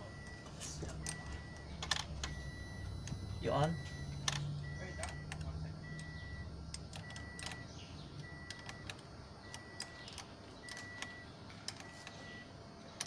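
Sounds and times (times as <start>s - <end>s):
car warning chime beeping: 0.0s - 12.5s
sharp clicks: 0.2s - 12.4s.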